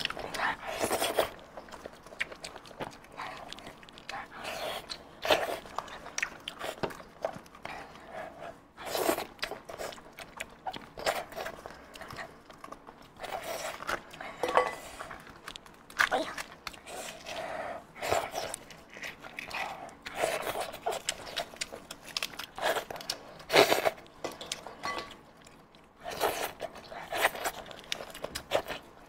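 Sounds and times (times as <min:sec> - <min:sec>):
wet smacking chewing: 0:00.0 - 0:17.4, 0:18.0 - 0:28.9.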